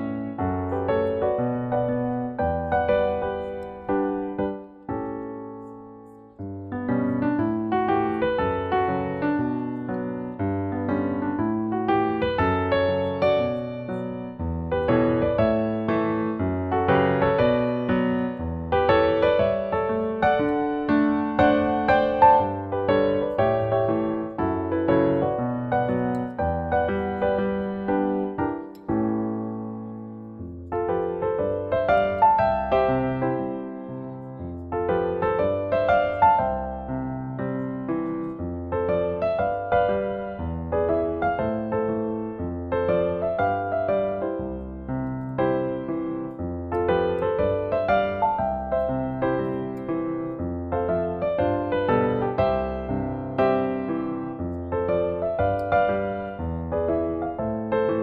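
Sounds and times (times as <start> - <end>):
solo piano music: 0.0 - 58.0.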